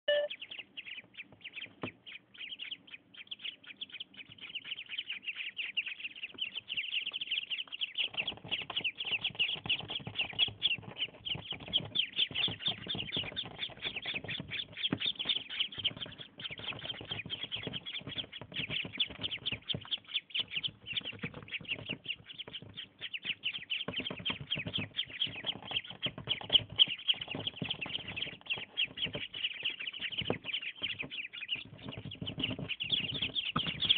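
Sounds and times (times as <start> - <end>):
ducklings peeping: 0.1 - 33.9.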